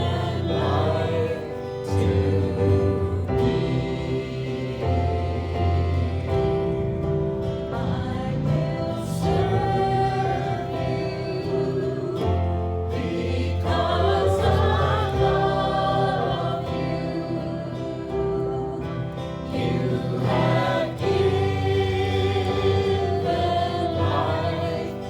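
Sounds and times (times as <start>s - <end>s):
group singing a hymn: 0.0s - 25.0s
steady bass line: 0.0s - 25.0s.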